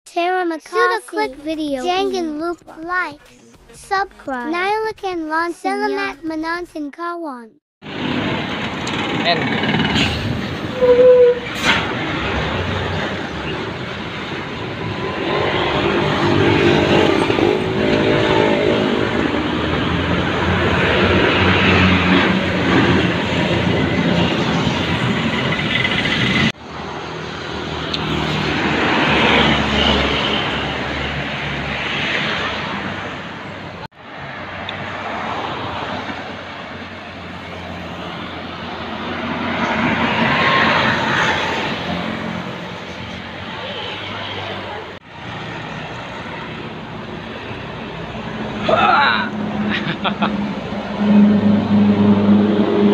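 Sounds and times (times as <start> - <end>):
buses and traffic passing: 0.1 - 52.9.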